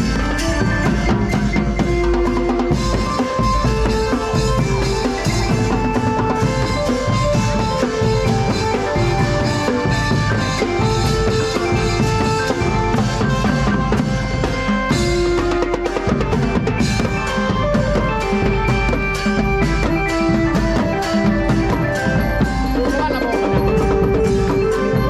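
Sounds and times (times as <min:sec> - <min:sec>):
brass band playing: 0:00.0 - 0:22.8
drum kit beat: 0:00.0 - 0:25.0.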